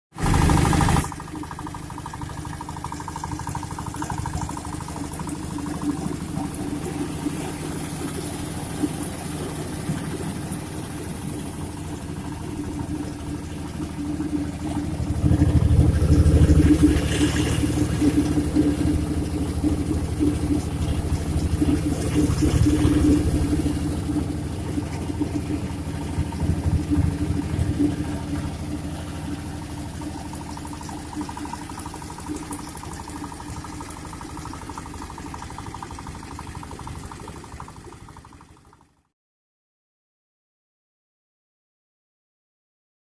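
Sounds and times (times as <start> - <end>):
grater machine engine humming: 0.2 - 37.7.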